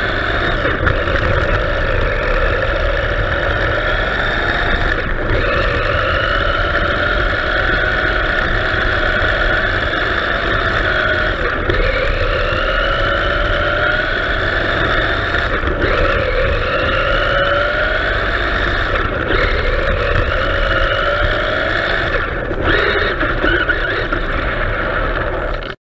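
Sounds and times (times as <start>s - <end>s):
rc car electric motor whining: 0.0s - 25.8s.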